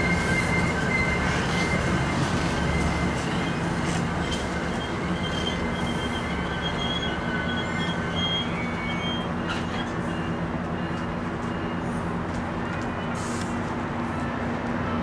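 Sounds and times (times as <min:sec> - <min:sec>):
high wheel squeals: 0:00.0 - 0:13.5
train wheels rumbling on rails: 0:00.0 - 0:15.0.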